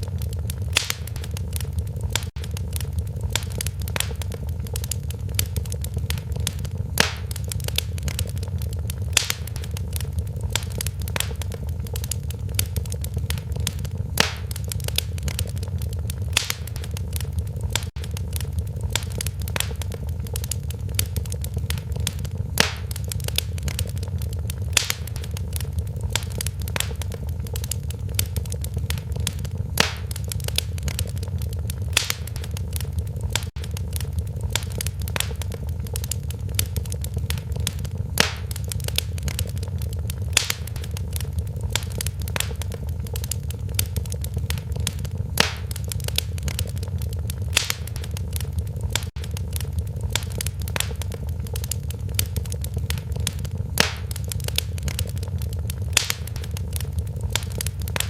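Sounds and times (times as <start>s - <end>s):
fire pops: 0.0s - 58.0s
steady low rumble: 0.0s - 58.0s
wood fire crackling: 0.0s - 58.0s.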